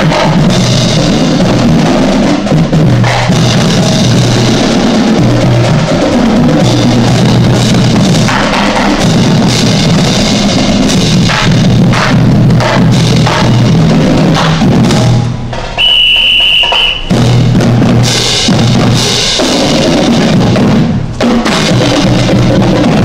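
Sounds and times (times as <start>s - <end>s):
marching band drums: 0.0s - 23.0s.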